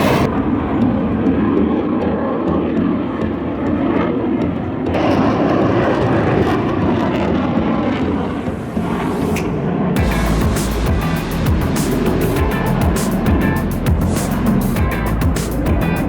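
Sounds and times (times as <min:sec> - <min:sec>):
airplane engine flying by: 0:00.0 - 0:16.0.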